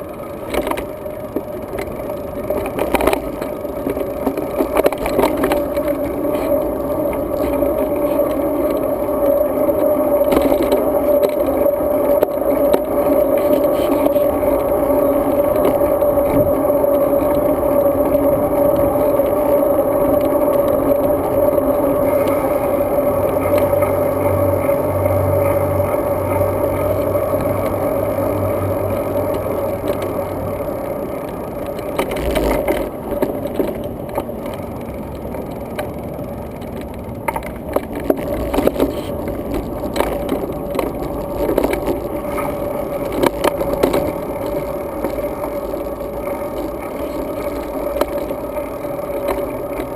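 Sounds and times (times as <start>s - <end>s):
bike rattles and knocks: 0.0s - 49.9s
low hum: 0.0s - 49.9s
wind and bike tyre noise: 0.0s - 49.9s.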